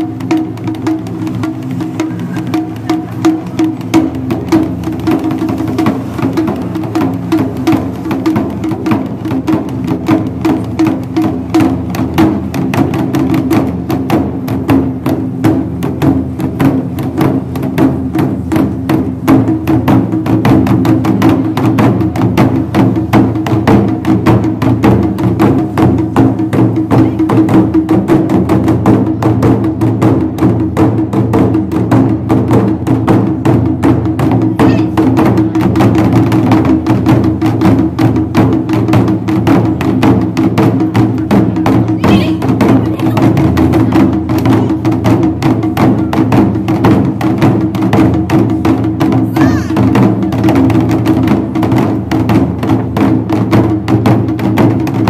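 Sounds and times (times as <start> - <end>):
taiko drumming: 0.0 - 55.0.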